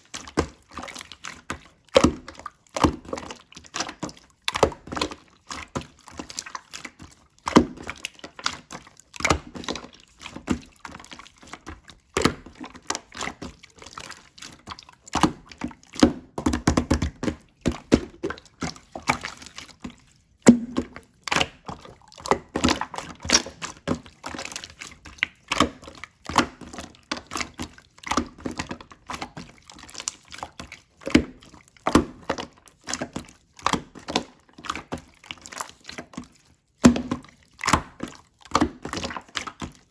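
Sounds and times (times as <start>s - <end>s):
slime squished by hand: 0.1s - 39.8s.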